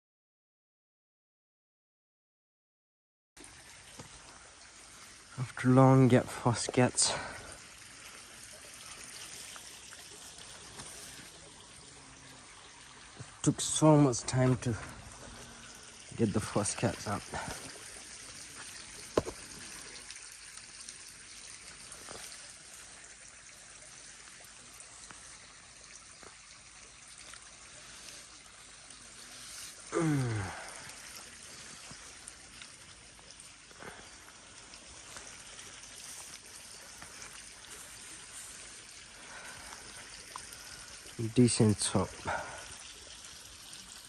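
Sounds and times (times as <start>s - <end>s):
water trickling: 3.4s - 44.0s.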